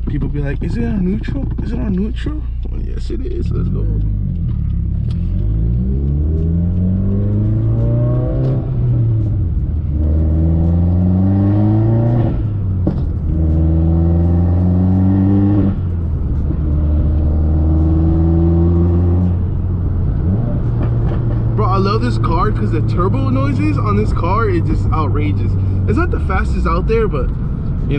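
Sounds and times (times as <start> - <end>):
turbocharged engine accelerating hard: 3.0 - 27.9.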